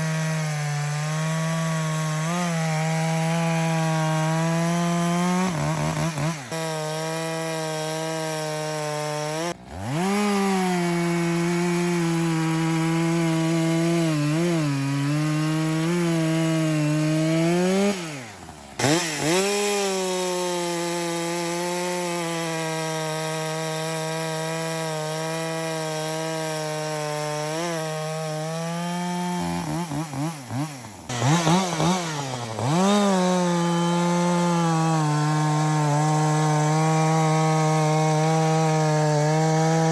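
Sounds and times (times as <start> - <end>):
chainsaw sawing through log: 0.0 - 39.9.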